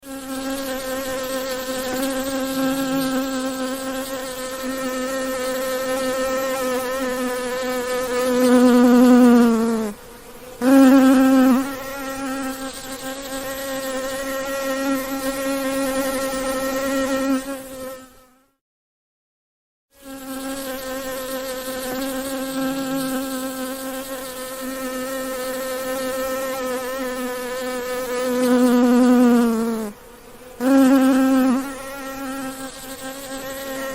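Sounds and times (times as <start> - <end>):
bee buzzing: 0.0 - 18.6, 20.0 - 33.9.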